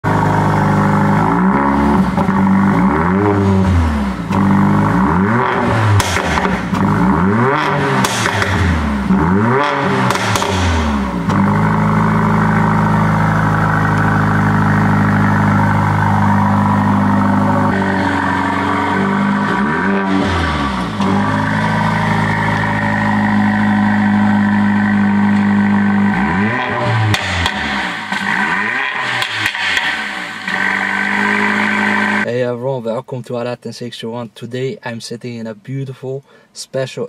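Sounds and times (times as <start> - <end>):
car engine revving: 0.0 - 32.3
exhaust cracks: 0.0 - 32.3.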